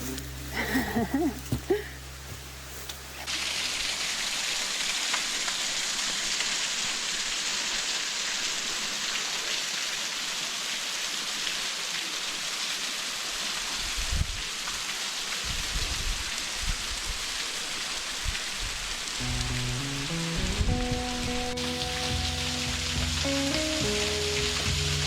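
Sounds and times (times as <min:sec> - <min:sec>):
waterfall splashing: 0:00.0 - 0:25.0.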